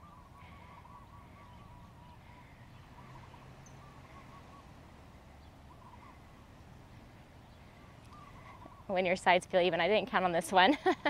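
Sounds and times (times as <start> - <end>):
faint bird calls: 0.0 - 9.1.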